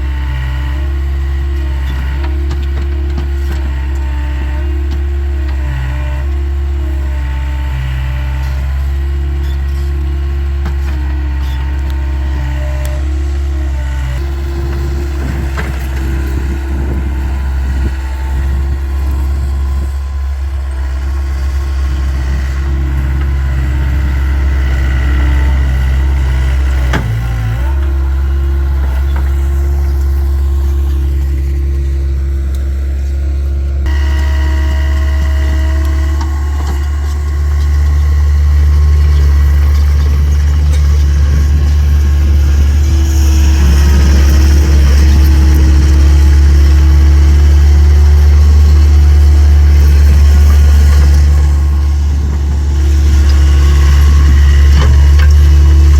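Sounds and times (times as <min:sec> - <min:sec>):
diesel engine droning: 0:00.0 - 0:55.9.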